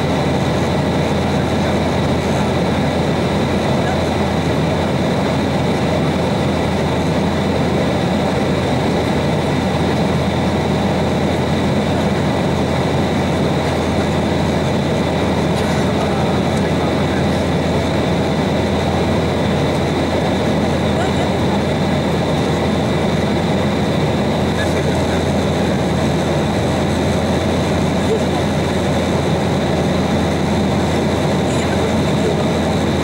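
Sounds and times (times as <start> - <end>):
air rushing along fuselage: 0.0 - 33.0
jet engine hum: 0.0 - 33.0.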